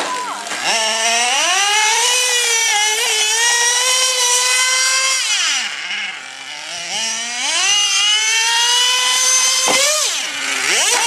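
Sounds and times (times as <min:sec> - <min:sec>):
small engine high-pitched whine: 0:00.0 - 0:11.0.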